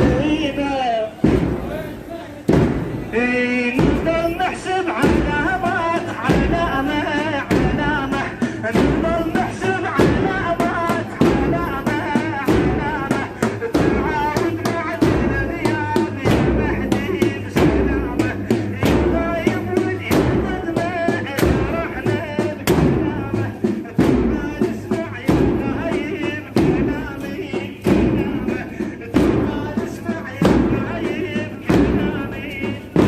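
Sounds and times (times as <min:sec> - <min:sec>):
heavy rhythmic thumps: 0:00.0 - 0:33.0
man chanting: 0:00.0 - 0:33.0.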